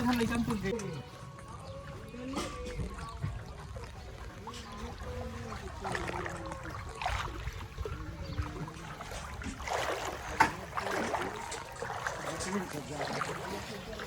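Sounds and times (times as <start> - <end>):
pond water splashing: 0.0 - 14.0.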